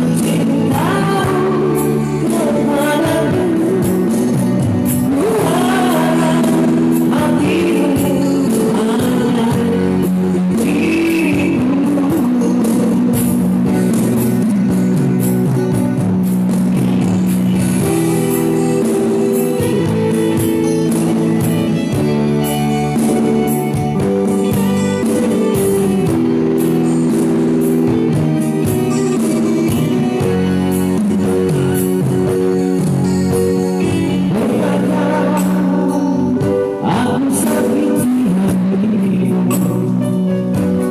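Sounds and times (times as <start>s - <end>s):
band playing pop song: 0.0s - 40.9s.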